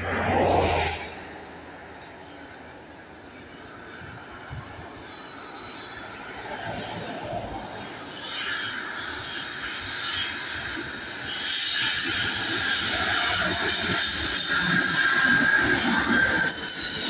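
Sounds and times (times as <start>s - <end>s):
jet engine rumble and whine: 0.0s - 17.0s.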